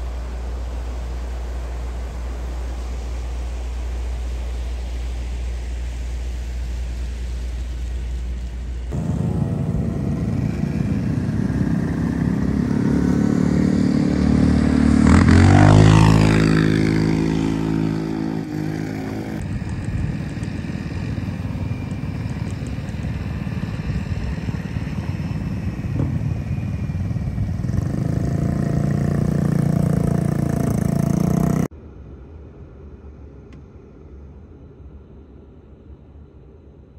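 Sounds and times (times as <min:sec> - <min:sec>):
vehicle engine passing by: 0:00.0 - 0:31.7
rushing background noise: 0:00.0 - 0:36.9.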